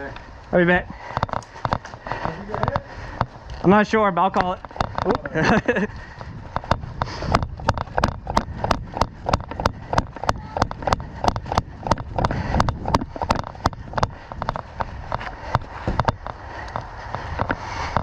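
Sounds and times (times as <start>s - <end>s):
jogging footsteps: 0.9s - 18.0s.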